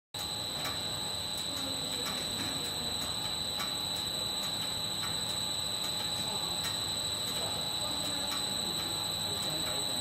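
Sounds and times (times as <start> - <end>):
light mechanical ticking: 0.2 - 10.0
machine high-pitched whine: 0.2 - 10.0
mechanical hum: 0.2 - 10.0.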